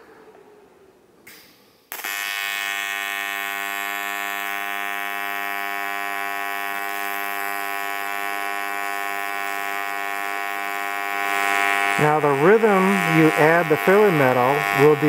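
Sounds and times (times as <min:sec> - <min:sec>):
welding arc buzzing: 0:01.3 - 0:15.0.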